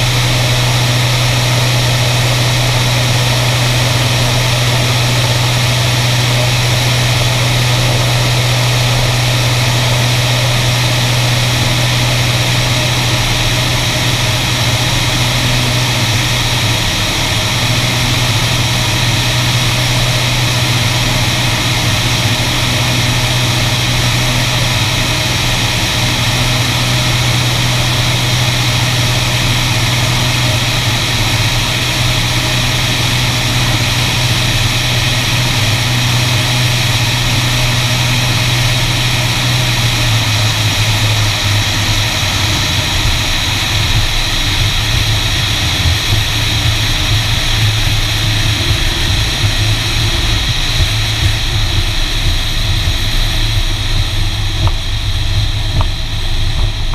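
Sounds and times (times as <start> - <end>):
propeller plane engines droning: 0.0 - 56.9
wheels rumbling on runway: 0.0 - 56.9.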